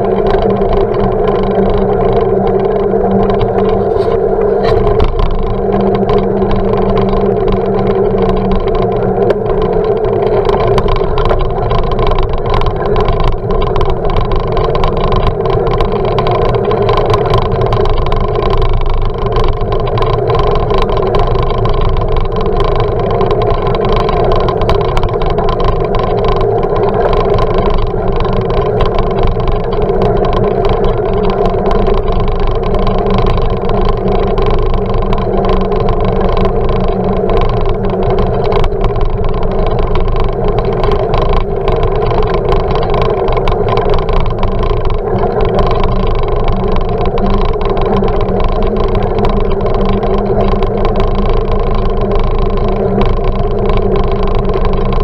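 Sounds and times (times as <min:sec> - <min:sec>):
muffled bicycle ride rumble: 0:00.0 - 0:55.0.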